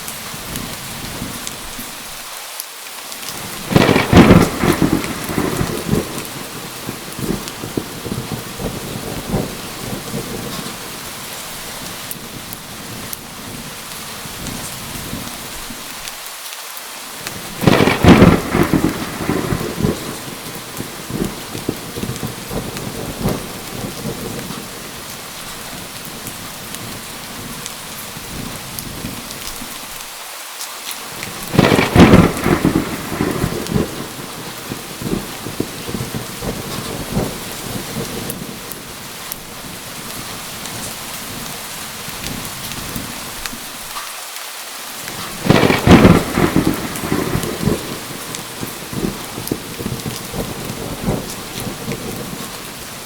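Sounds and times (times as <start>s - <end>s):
heavy rain: 0.0s - 53.0s
thunderclaps rumbling: 3.3s - 15.7s, 17.2s - 29.8s, 31.1s - 43.6s, 45.1s - 53.0s.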